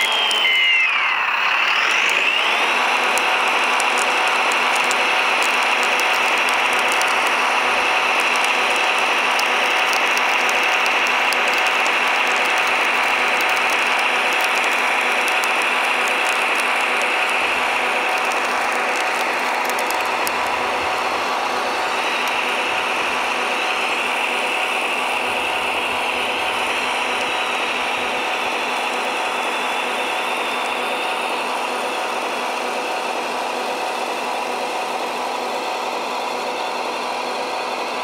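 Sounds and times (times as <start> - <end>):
electric motor whirring whine: 0.0 - 38.0.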